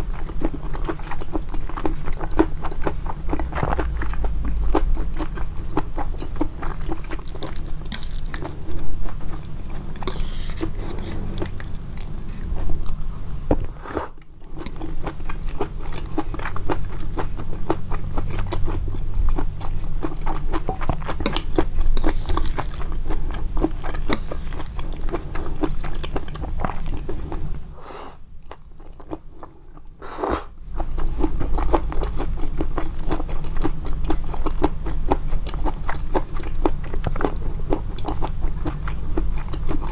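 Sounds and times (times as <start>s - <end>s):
amplified noodle chewing: 0.0s - 39.9s.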